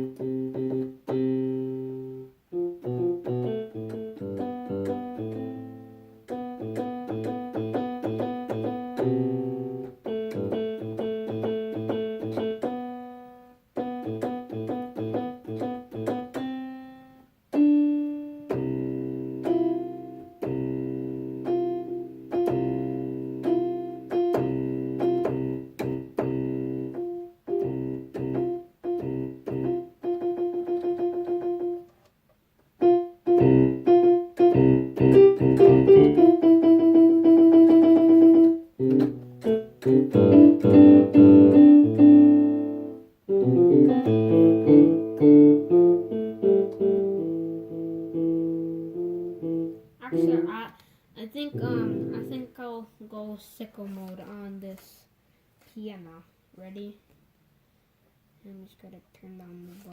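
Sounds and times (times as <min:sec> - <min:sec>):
piano chords over bass notes: 0:00.0 - 0:16.9, 0:17.5 - 0:31.8, 0:32.8 - 0:50.6, 0:51.6 - 0:52.4.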